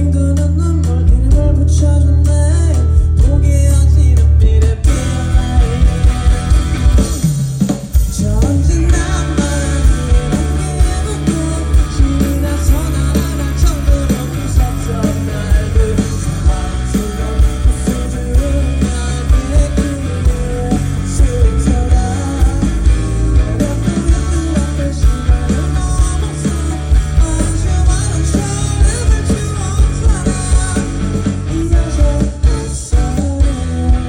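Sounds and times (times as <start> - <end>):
live pop-rock band playing: 0.0 - 34.0
man singing lead vocal: 0.0 - 34.0.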